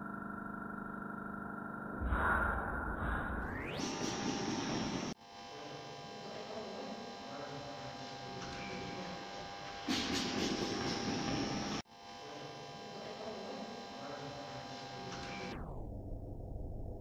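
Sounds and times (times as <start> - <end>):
electrical hum: 0.0 - 15.7.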